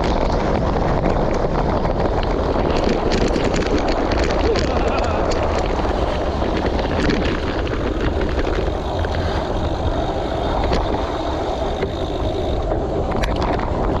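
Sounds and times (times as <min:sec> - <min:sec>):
tyres crunching on loose stones: 0:00.0 - 0:14.0
vehicle rumble on gravel road: 0:00.0 - 0:14.0
wind buffeting: 0:00.0 - 0:14.0.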